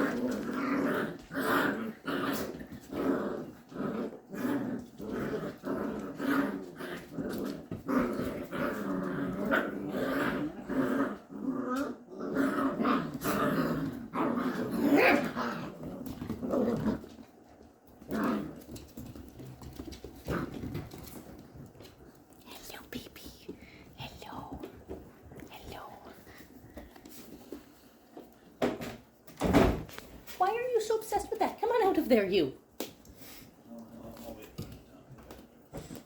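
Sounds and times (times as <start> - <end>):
puppies growling in play: 0.0 - 29.3, 33.0 - 36.0.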